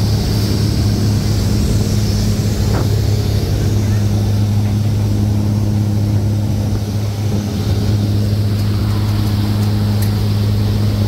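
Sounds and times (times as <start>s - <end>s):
boat engine droning: 0.0s - 11.0s
wind and water hiss: 0.0s - 11.0s.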